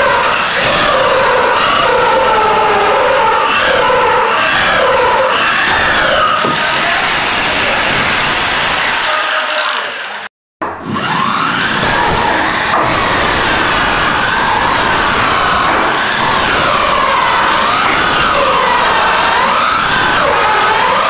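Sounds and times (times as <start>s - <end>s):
electric drill whine: 0.0s - 21.0s.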